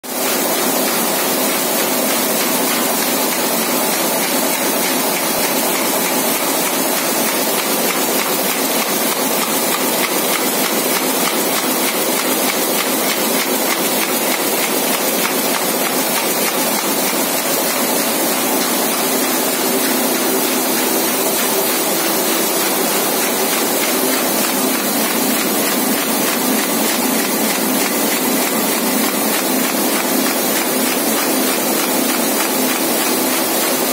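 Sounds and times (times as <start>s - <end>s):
printing press clattering: 0.1s - 33.9s.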